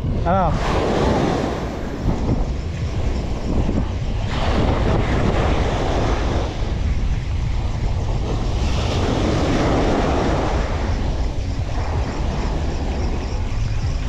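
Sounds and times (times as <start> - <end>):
sea waves washing and splashing: 0.0 - 14.0
wind buffeting microphone: 0.0 - 14.0.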